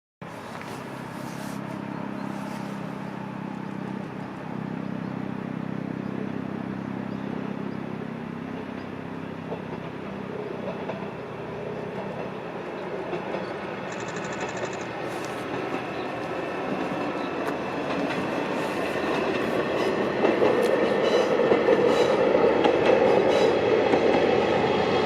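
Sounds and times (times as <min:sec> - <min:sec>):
diesel engine drone: 0:00.2 - 0:25.0
train wheels rumbling on rails: 0:00.2 - 0:25.0.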